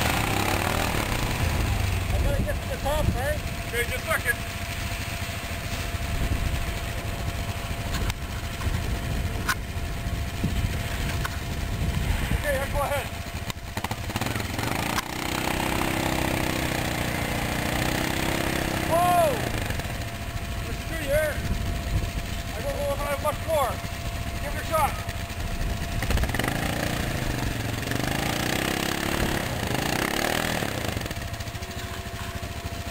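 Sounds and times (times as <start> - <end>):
atv engines idling: 0.0 - 32.9.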